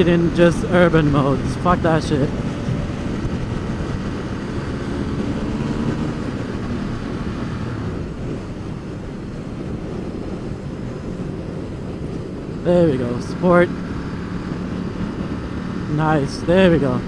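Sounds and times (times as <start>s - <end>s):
motorcycle engine running: 0.0s - 17.0s
road noise: 0.0s - 17.0s
wind noise on microphone: 0.0s - 17.0s.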